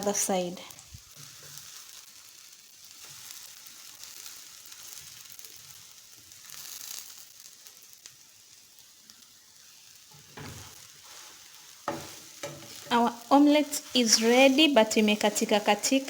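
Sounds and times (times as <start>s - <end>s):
omelette sizzling in a pan: 0.0s - 16.0s.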